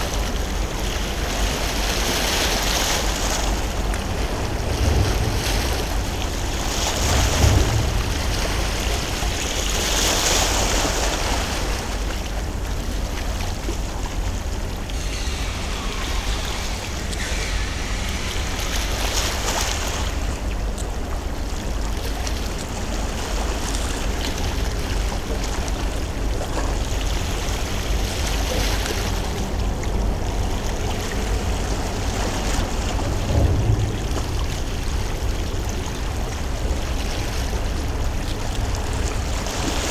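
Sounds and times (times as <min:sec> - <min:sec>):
water lapping against shore: 0:00.0 - 0:39.9
wind rumble on microphone: 0:00.0 - 0:39.9.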